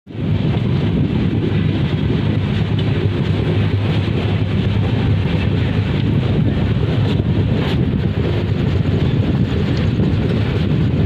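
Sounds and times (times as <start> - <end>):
moving passenger train: 0.1 - 11.0
wind buffeting microphone: 0.1 - 11.0.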